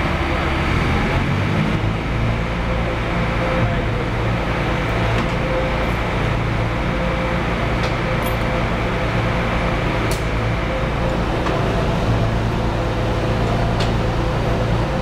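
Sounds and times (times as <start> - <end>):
machinery and ventilation hum: 0.0 - 15.0.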